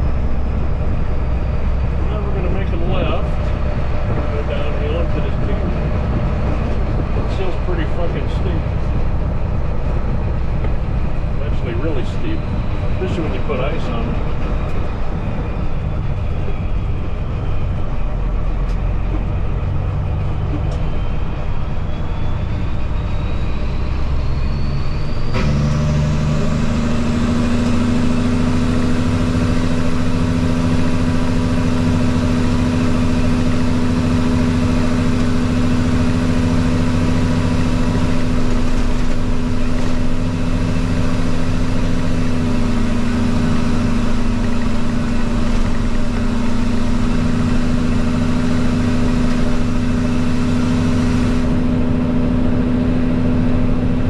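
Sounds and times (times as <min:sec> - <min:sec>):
road noise: 0:00.0 - 0:54.0
truck diesel engine droning: 0:00.0 - 0:54.0.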